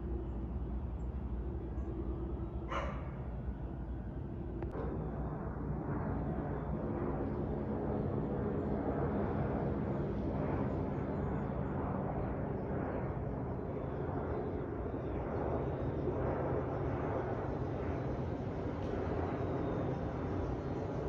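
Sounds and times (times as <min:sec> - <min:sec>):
jet engines passing overhead: 0:00.0 - 0:21.0.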